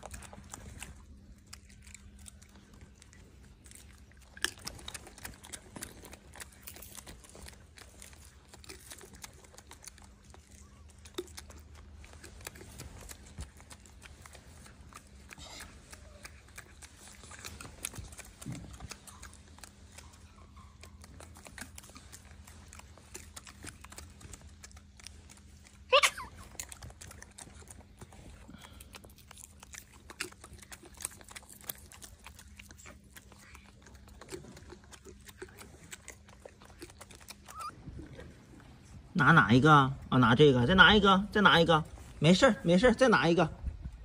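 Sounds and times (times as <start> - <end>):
faint clicks and rustles: 0.0 - 39.1
steady low hum: 0.0 - 44.0.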